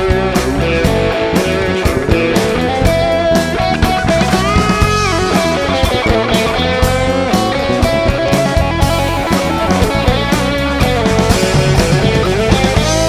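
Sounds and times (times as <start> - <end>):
drum kit: 0.0 - 13.0
electric guitar playing: 0.0 - 13.0.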